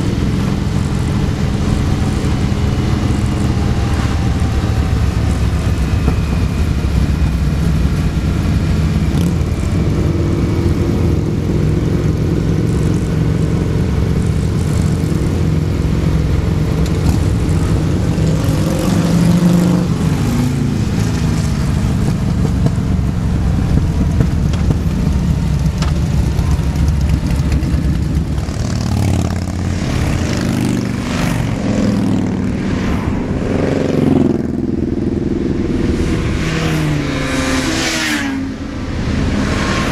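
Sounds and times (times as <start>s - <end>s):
motorcycle engines running: 0.0s - 39.9s
wind rush: 0.0s - 39.9s.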